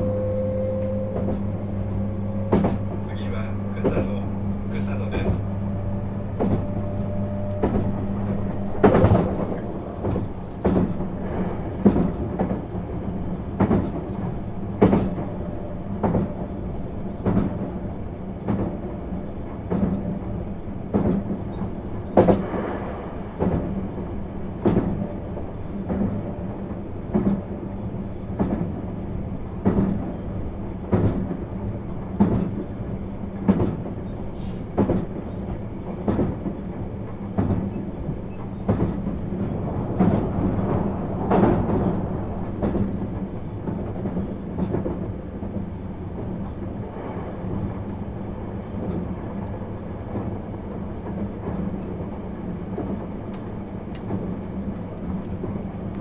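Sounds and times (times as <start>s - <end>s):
train running rumble: 0.0s - 56.0s
train wheels clacking on rail joints: 0.0s - 56.0s.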